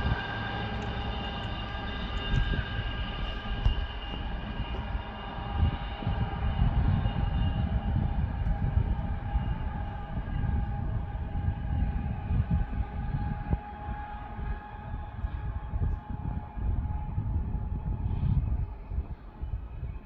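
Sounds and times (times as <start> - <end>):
constant pitched whine: 0.0 - 20.0
diesel train rumbling: 0.0 - 20.0.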